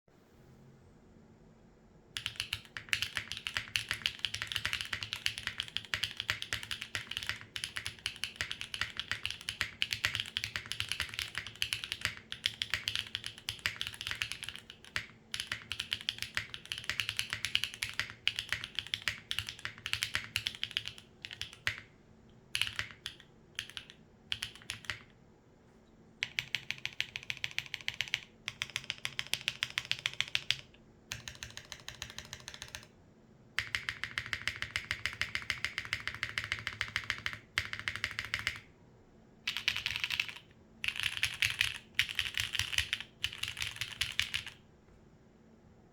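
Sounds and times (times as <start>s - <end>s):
mechanical keyboard typing: 2.2s - 21.9s, 22.5s - 25.1s, 26.2s - 32.9s, 33.6s - 38.7s, 39.5s - 44.6s.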